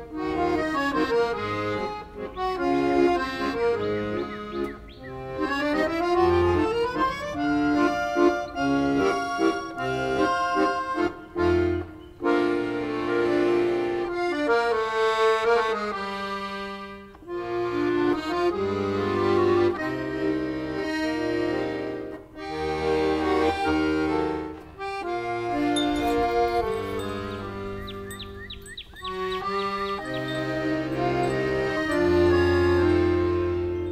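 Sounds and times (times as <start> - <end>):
instrumental background music: 0.0 - 33.9.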